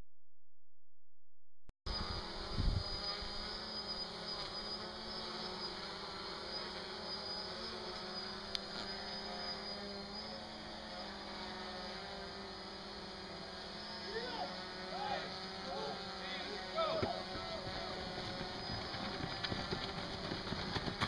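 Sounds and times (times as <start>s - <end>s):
drone buzzing hum: 1.9s - 21.0s.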